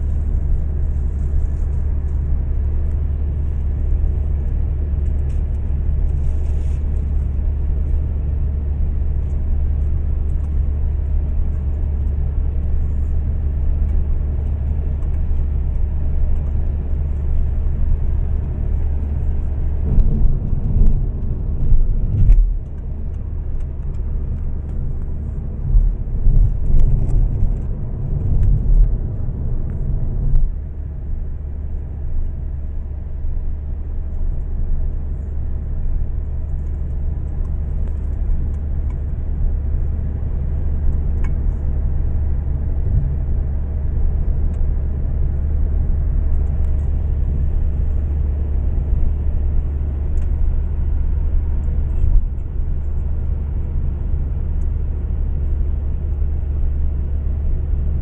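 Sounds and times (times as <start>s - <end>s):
car road noise rumble: 0.0s - 58.0s.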